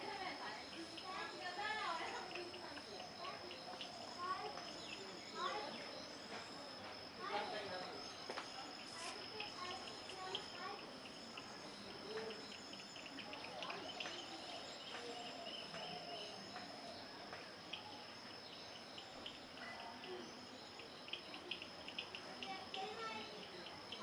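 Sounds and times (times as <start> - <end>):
insect chorus drone: 0.0 - 24.0
chirping ticks: 0.5 - 7.0, 8.1 - 24.0.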